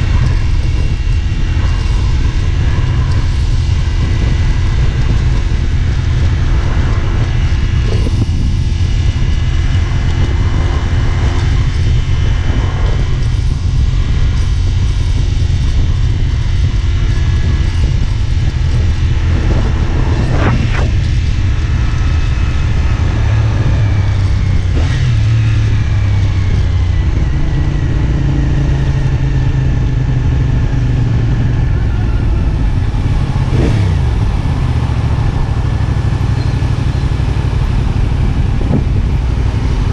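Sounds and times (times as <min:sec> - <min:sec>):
low wind rumble: 0:00.0 - 0:39.9
motorcycle engine running: 0:00.0 - 0:39.9.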